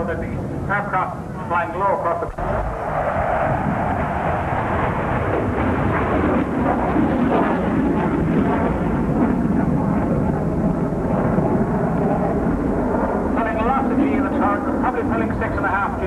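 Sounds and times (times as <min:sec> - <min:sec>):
military jet pass: 0:00.0 - 0:16.0.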